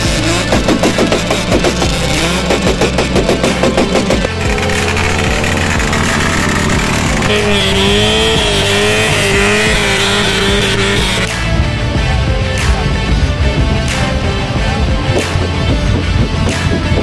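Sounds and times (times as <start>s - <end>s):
car engine running hard: 0.0s - 17.0s.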